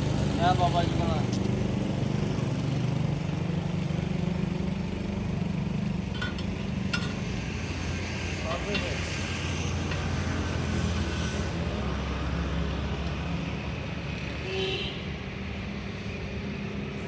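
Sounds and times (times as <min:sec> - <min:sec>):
engine humming: 0:00.0 - 0:13.8.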